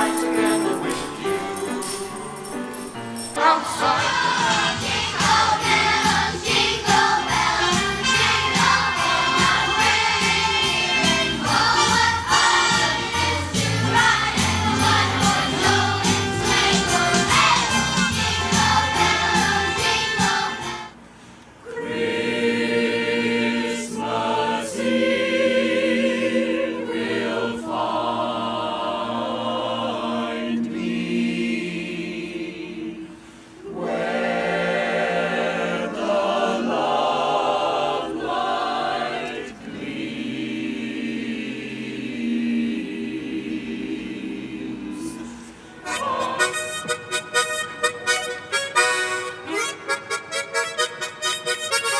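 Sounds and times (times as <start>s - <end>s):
choir singing: 0.0s - 21.0s, 21.6s - 49.6s.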